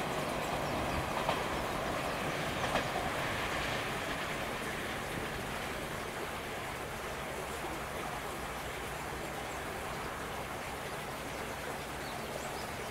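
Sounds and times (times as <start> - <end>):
distant road traffic: 0.0 - 12.9.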